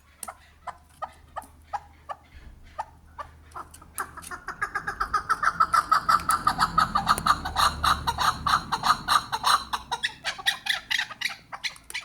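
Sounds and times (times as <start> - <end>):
partridge clucking calls: 0.0 - 12.0.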